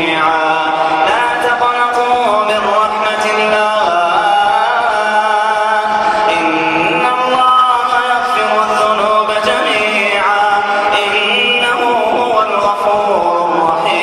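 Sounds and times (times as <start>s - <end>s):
layered vocal chanting: 0.0s - 14.0s.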